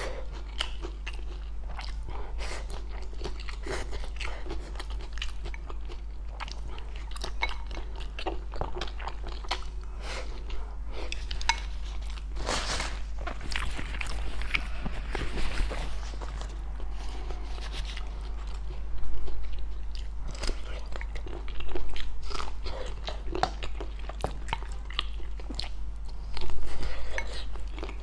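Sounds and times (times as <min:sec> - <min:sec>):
chewing and crunching food: 0:00.0 - 0:28.0
steady low hum: 0:00.0 - 0:28.0.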